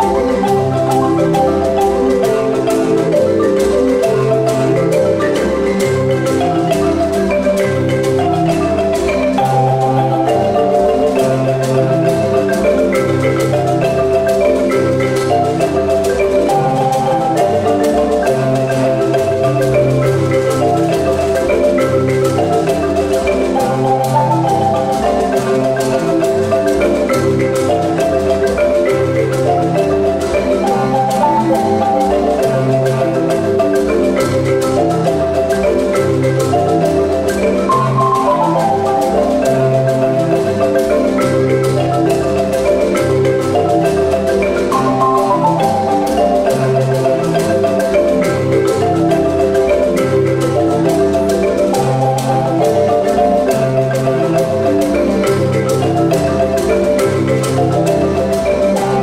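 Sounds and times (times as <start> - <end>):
marimba ensemble playing: 0.0 - 59.0.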